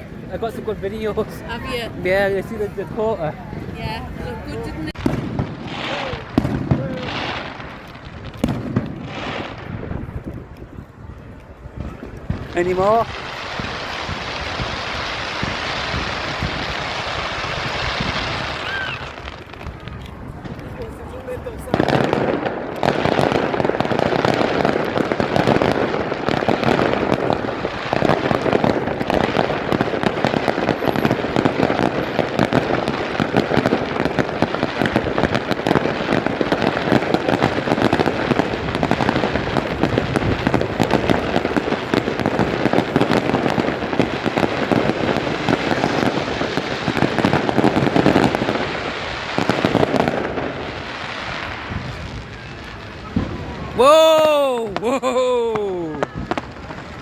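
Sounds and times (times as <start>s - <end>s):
firework bursts crackling: 0.0s - 57.0s.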